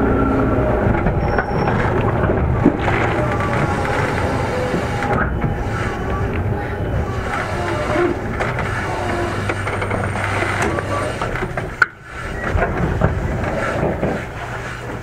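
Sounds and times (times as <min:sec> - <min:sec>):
low motor hum: 0:00.0 - 0:15.0
train wheel-on-rail rumble: 0:00.0 - 0:15.0.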